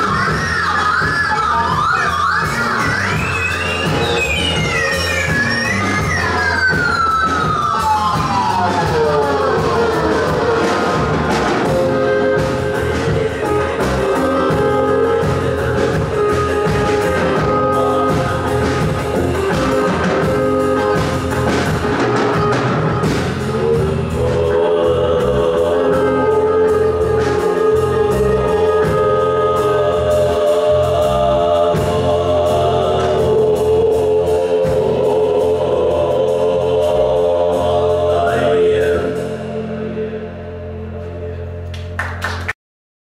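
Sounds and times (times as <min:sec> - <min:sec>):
person singing long notes: 0:00.0 - 0:21.3, 0:22.4 - 0:41.6
electric guitar: 0:00.0 - 0:35.0
bass guitar: 0:00.0 - 0:42.5
drum kit: 0:00.0 - 0:42.6.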